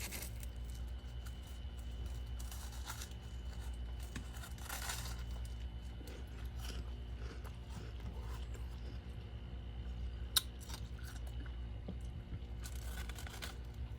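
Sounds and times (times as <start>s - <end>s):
person chewing crunchy frost: 0.0s - 13.9s.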